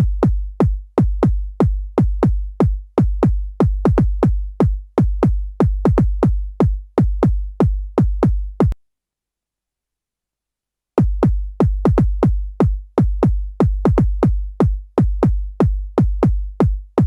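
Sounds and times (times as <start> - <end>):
electronic kick drum hits: 0.0 - 8.8, 11.0 - 17.0.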